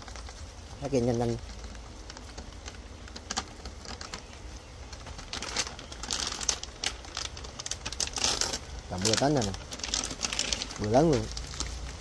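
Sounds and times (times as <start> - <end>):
foil pouch crinkling: 0.0 - 12.0
powder pouring into tank: 0.0 - 12.0.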